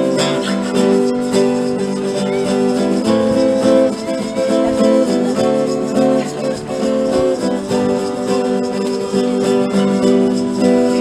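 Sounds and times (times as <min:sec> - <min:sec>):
acoustic guitars strumming: 0:00.0 - 0:11.0.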